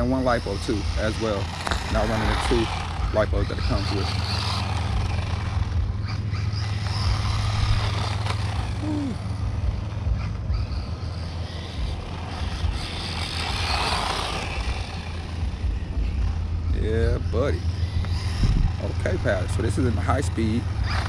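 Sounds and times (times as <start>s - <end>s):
low rumble: 0.0s - 21.0s
rc truck motor and tyres: 0.0s - 21.0s.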